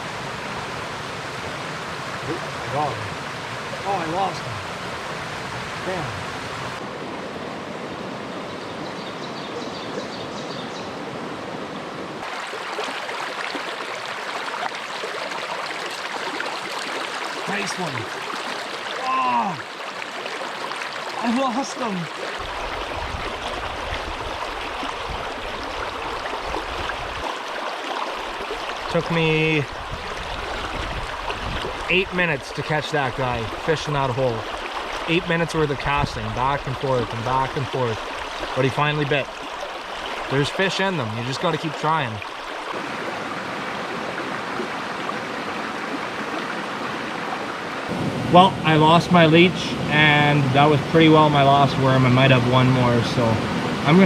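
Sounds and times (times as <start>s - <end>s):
creek rushing over stones: 0.0s - 7.0s, 12.2s - 54.0s.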